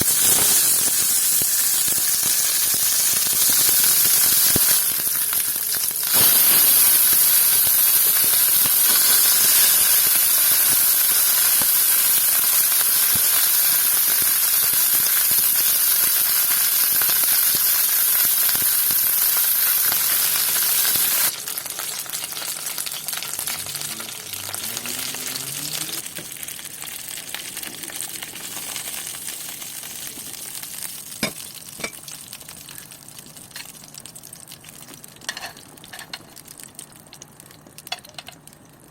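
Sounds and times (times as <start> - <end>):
food sizzling in a pan: 0.0 - 36.8.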